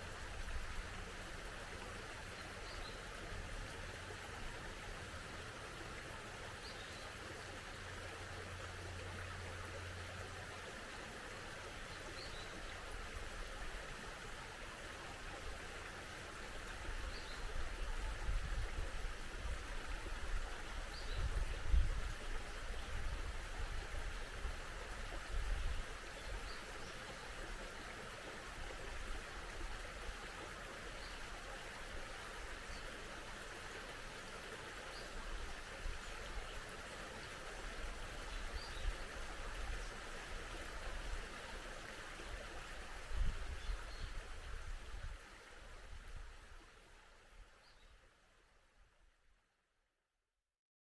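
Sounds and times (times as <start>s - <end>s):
mountain stream flowing: 0.0s - 49.4s.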